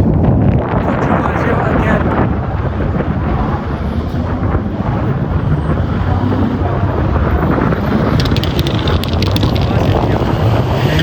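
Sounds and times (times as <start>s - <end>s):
rally car engine rumble: 0.0s - 11.0s.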